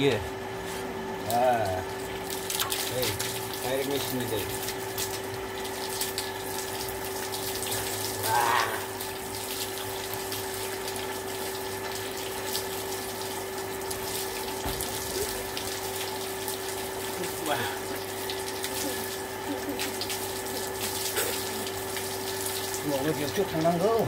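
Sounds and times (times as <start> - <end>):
pump humming: 0.0 - 24.0
water splashing from a hose: 1.2 - 24.0.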